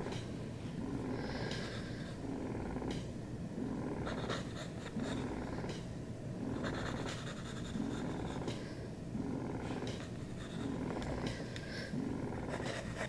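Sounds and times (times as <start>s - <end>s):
cat purring: 0.8s - 13.0s.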